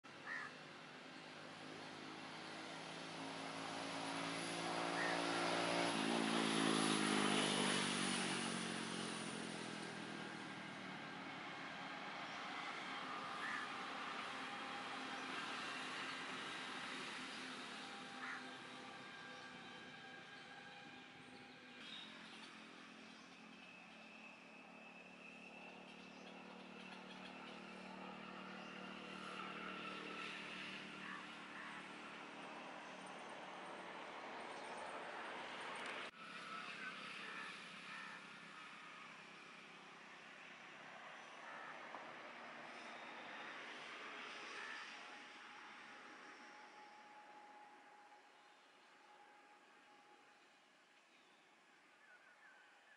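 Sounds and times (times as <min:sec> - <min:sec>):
passing vehicle engine humming: 0:00.2 - 0:50.4.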